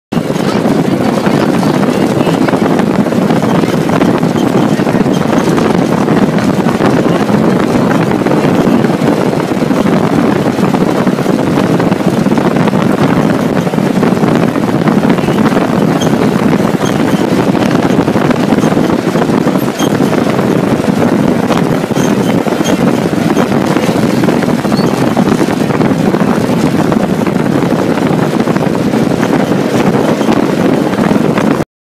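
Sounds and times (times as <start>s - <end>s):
dune buggy engine and wind: 0.1s - 31.6s.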